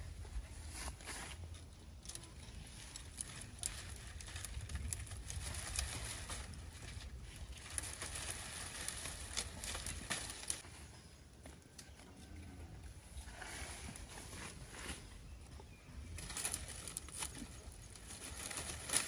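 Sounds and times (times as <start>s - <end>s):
dry leaves and twigs rustling: 0.0s - 19.0s.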